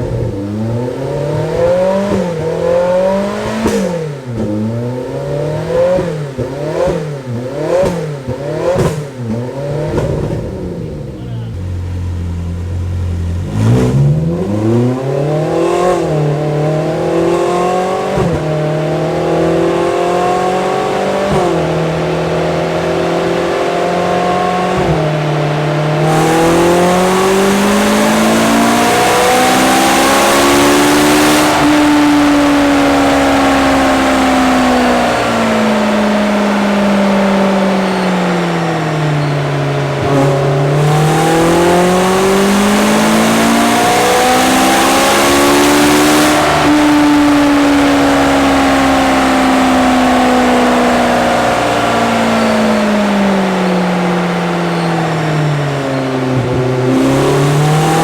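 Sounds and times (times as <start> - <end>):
car engine on dyno: 0.0 - 58.0.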